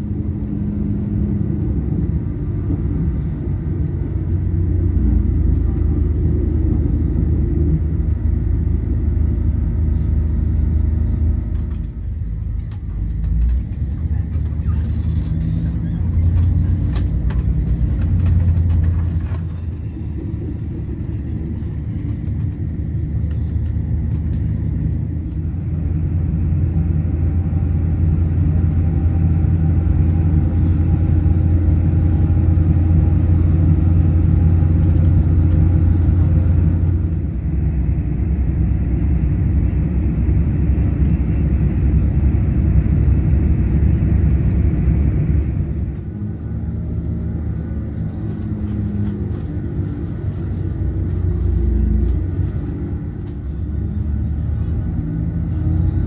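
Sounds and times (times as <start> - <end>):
moving vehicle rumble: 0.0 - 56.0.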